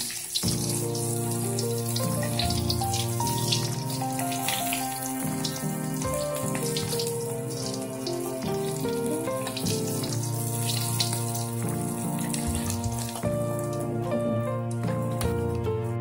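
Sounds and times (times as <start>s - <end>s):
fish sizzling in hot oil: 0.0s - 14.2s
background music: 0.0s - 16.0s.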